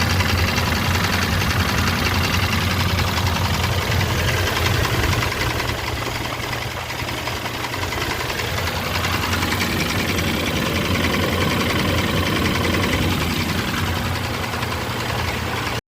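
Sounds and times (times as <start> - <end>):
car engine idling with rapid knocking: 0.0 - 15.8.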